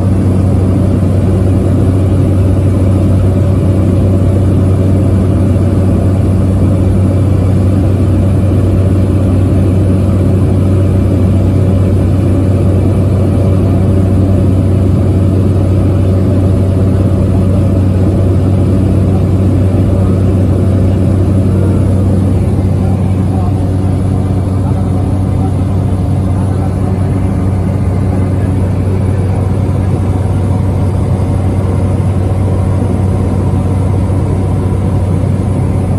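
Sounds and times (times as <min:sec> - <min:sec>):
light aircraft engine drone: 0:00.0 - 0:35.9.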